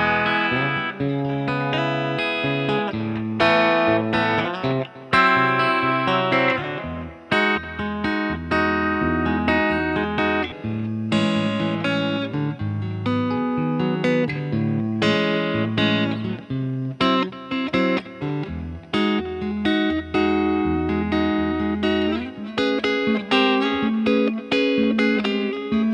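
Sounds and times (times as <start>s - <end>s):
clean electric guitar playing: 0.0s - 25.9s.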